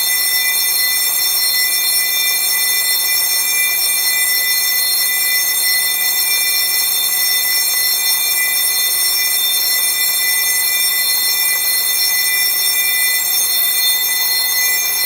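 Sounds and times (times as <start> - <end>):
alarm clock bell ringing: 0.0 - 15.0.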